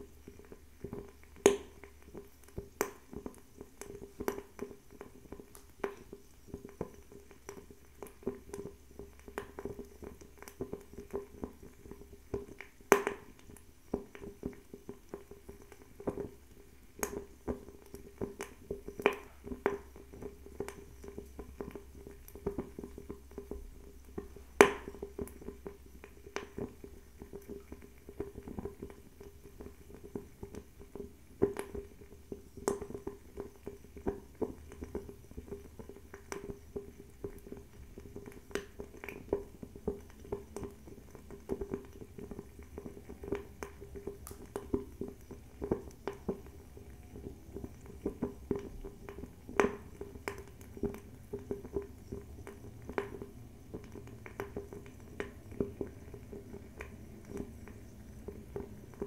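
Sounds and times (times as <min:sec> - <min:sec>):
faint steady hum: 0:00.0 - 0:59.0
fire crackling: 0:00.0 - 0:59.0.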